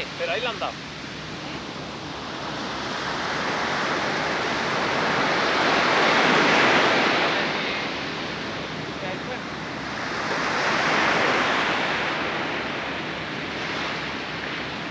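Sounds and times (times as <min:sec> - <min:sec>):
surf breaking on beach: 0:00.0 - 0:14.9.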